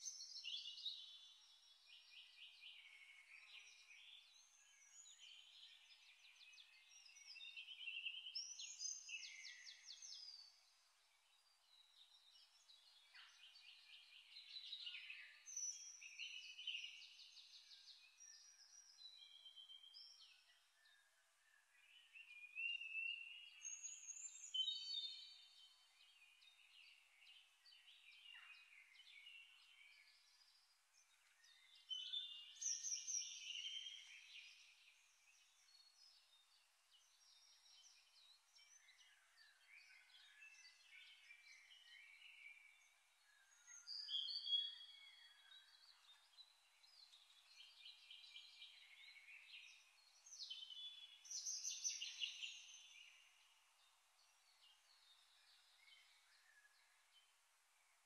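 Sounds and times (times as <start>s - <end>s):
faint birdsong chirps and trills: 0.0s - 58.0s.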